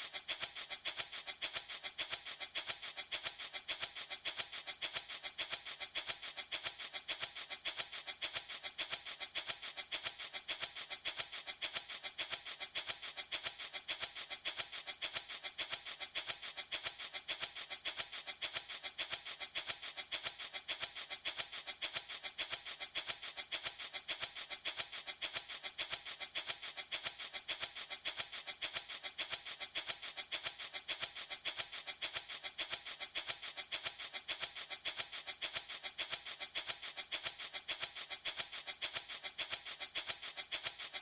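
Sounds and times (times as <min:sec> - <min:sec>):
baby rattle shaking: 0:00.0 - 0:41.0.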